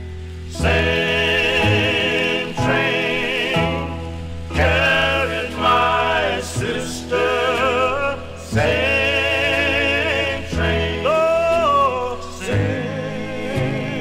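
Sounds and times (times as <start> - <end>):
male vocal quartet singing: 0.4 - 14.0.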